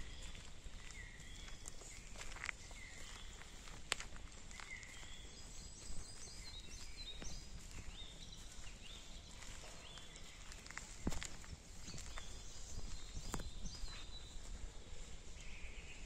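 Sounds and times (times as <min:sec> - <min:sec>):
footsteps on forest path: 0:00.0 - 0:16.0
songbirds chirping: 0:00.0 - 0:16.0.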